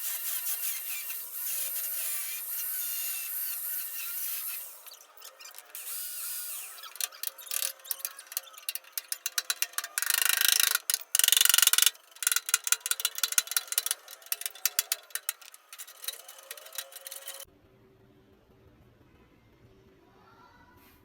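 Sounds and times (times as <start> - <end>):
mechanical clicking: 0.0 - 17.5.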